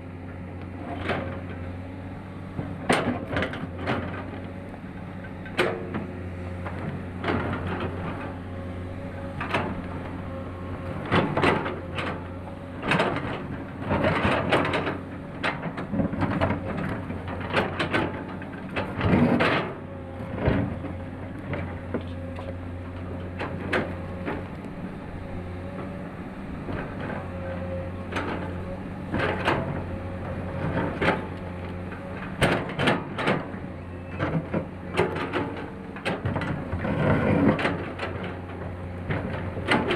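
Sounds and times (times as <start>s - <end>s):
excavator diesel engine running: 0.0s - 39.9s
machine knocks clanks and scrapes: 0.8s - 1.6s, 2.5s - 8.4s, 9.2s - 24.6s, 26.6s - 39.9s.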